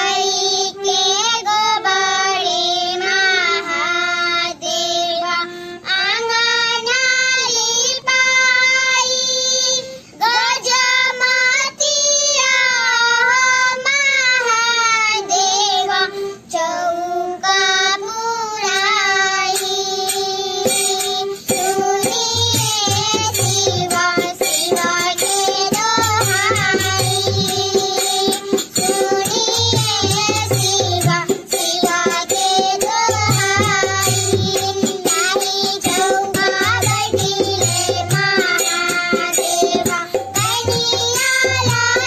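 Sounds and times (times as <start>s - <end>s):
girls singing folk song: 0.0s - 42.0s
harmonium: 0.0s - 42.0s.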